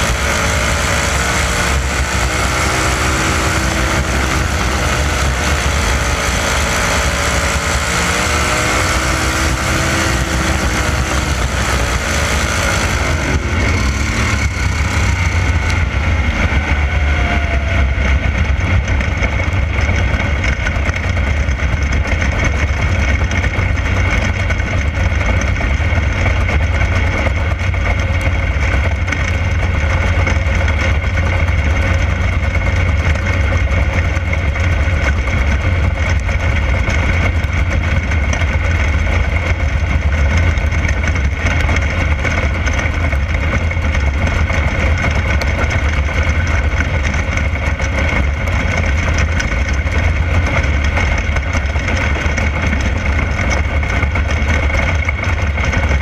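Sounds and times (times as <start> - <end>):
racing car engine droning: 0.0 - 56.0.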